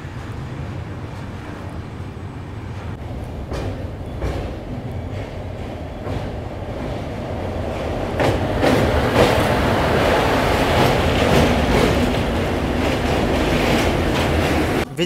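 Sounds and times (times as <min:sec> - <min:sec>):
passing train: 0:00.0 - 0:15.0
train rumbling: 0:00.0 - 0:15.0.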